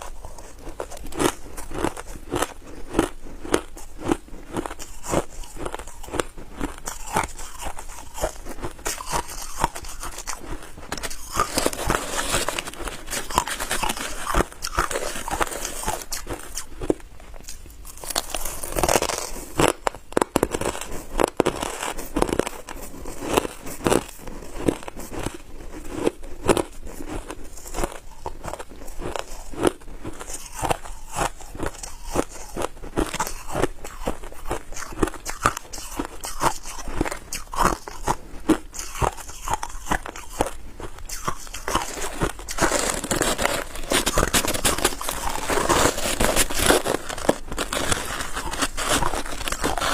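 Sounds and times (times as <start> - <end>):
ice being chewed: 0.0 - 49.9.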